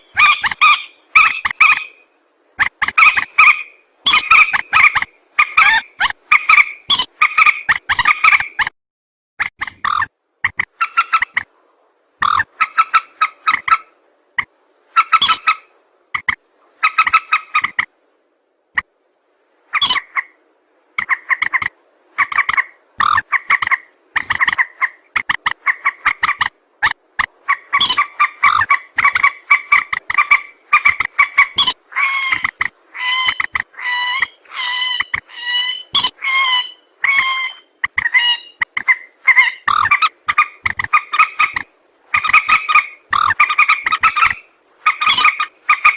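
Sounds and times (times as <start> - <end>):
rail bird calls: 0.0 - 8.7, 9.6 - 11.5, 12.2 - 17.9, 19.7 - 45.9.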